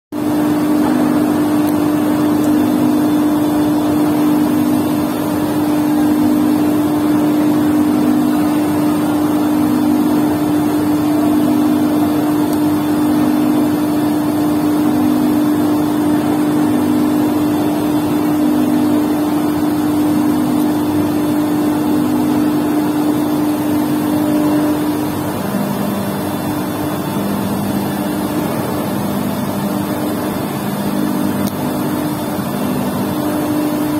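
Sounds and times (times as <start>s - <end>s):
inkjet printer humming: 0.2s - 33.9s.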